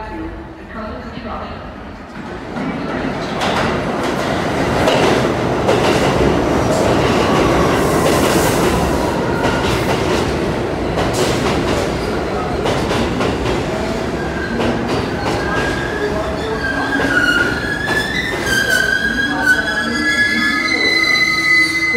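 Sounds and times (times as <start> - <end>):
subway train rumble: 0.0 - 21.9.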